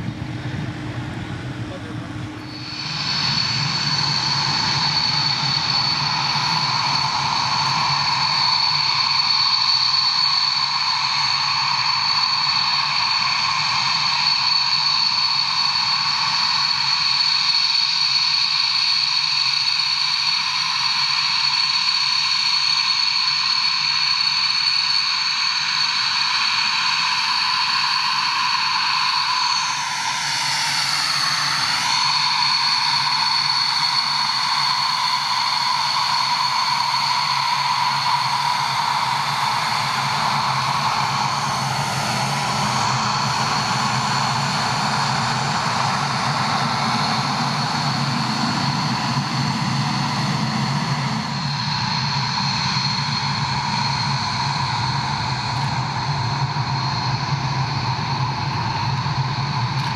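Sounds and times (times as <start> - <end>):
jet engine whining: 0.0 - 59.9.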